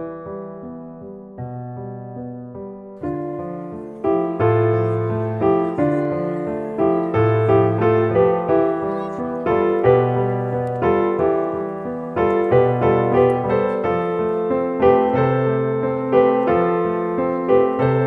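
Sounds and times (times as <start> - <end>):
background piano music: 0.0 - 18.0.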